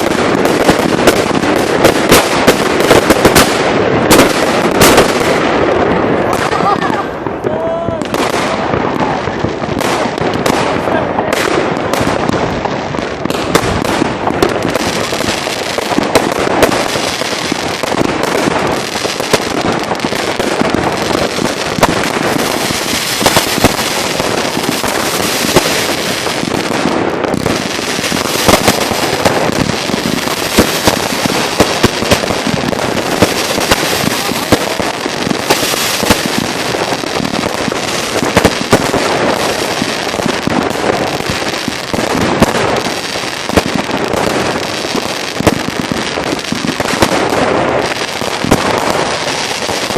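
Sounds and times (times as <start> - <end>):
fireworks barrage: 0.0 - 49.9.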